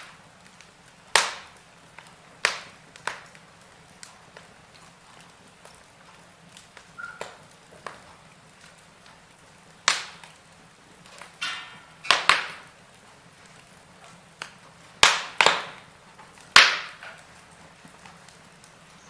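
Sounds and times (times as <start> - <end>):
sharp pops from fire: 0.0 - 19.0
wood fire crackling: 0.0 - 19.0.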